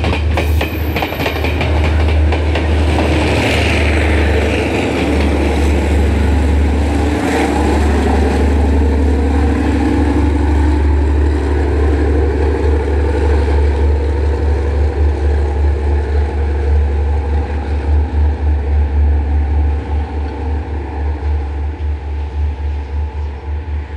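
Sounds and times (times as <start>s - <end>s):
train diesel engine pulling away: 0.0s - 23.9s
heavy low rumble: 1.5s - 23.9s.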